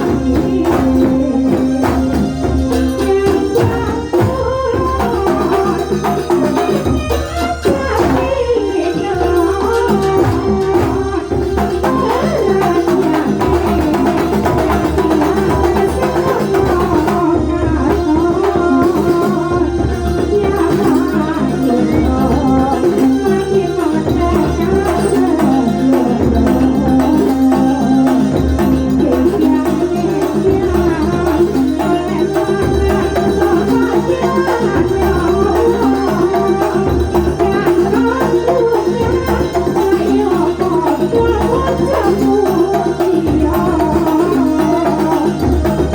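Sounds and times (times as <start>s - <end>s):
hand drums beating: 0.0s - 45.9s
wavering melody: 0.0s - 45.9s.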